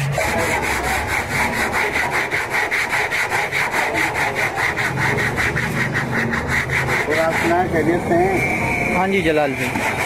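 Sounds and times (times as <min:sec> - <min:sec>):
sandpaper rubbing on metal: 0:00.0 - 0:10.0.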